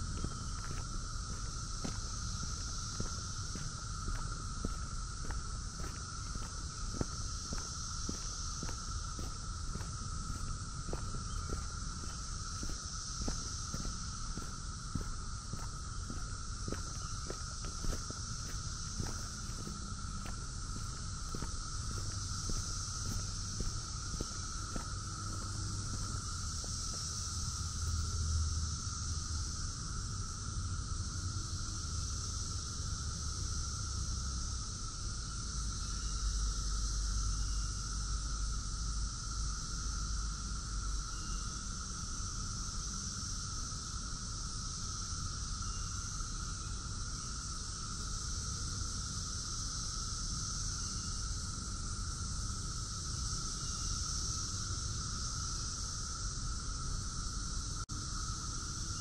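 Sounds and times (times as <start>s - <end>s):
cicadas droning in chorus: 0.0s - 59.0s.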